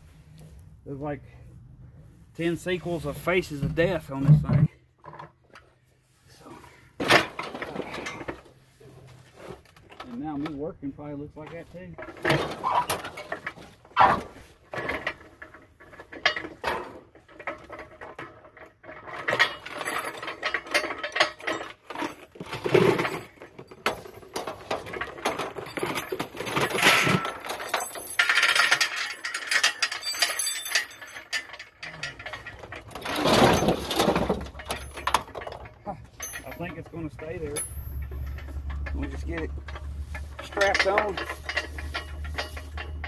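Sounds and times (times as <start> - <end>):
metal clanking and rattling: 7.0 - 10.7, 11.4 - 43.0.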